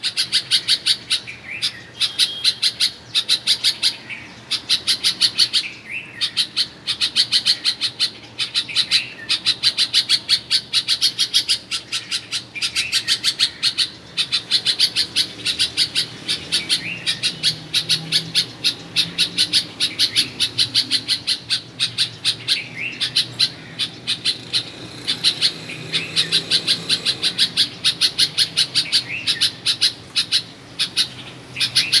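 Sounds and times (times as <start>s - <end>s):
bird giving sharp chirps: 0.0s - 32.0s.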